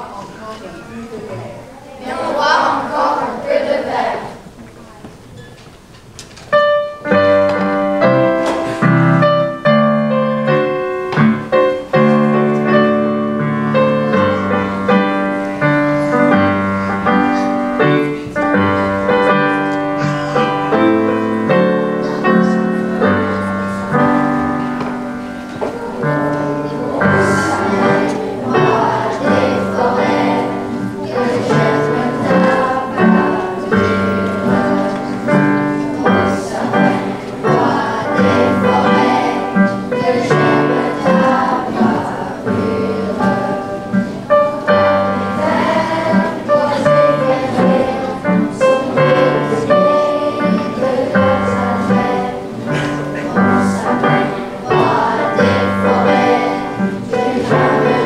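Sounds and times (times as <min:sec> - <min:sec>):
classical guitars ensemble playing: 0:00.0 - 0:58.0
piano accompaniment: 0:05.8 - 0:58.0.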